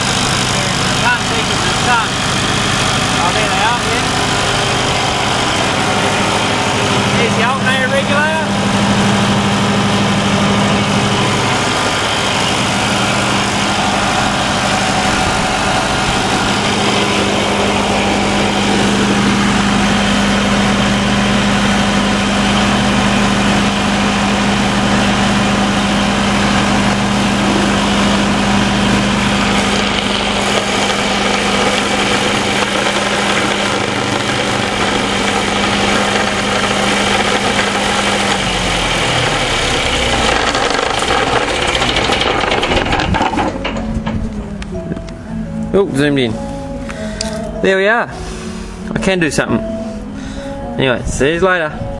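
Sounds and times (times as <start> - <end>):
diesel generator humming: 0.0 - 51.9.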